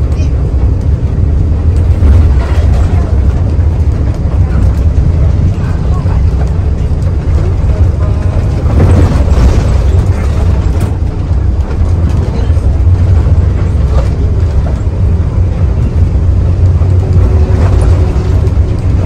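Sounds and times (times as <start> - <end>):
bus engine and road noise rumbling: 0.0 - 19.0.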